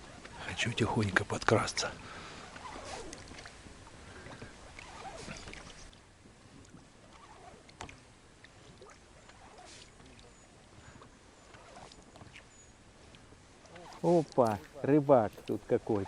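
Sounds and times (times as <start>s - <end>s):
oars swishing in water: 0.0s - 16.0s.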